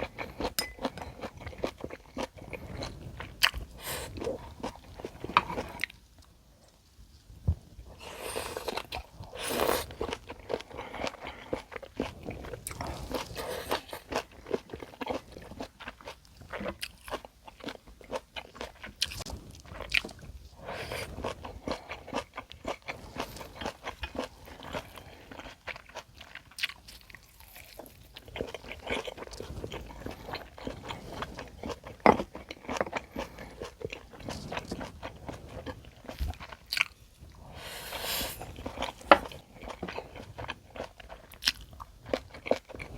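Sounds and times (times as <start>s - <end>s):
person chewing food: 0.0s - 6.8s, 7.8s - 42.9s.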